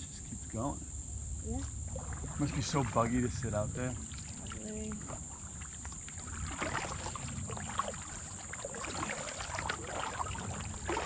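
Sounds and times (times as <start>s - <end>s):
paddle dipping into water: 1.9s - 11.0s
small splashes and drips: 1.9s - 11.0s.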